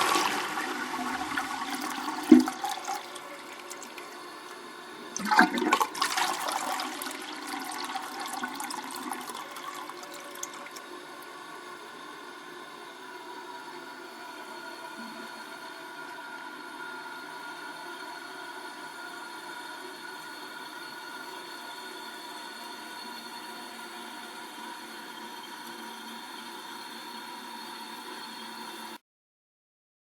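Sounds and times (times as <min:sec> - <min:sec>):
toilet cistern refilling: 0:00.0 - 0:29.0.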